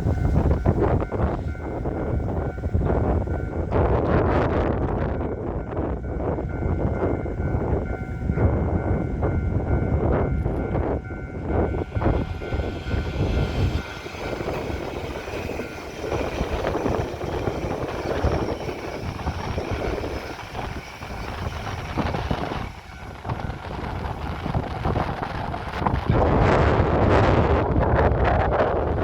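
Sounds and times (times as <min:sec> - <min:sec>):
train rumbling past: 0:00.0 - 0:29.0
wind buffeting microphone: 0:00.0 - 0:29.0.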